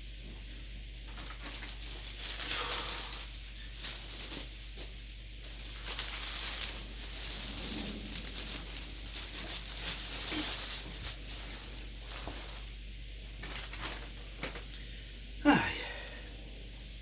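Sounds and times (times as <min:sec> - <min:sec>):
paper rustling and crinkling: 0:01.0 - 0:14.9.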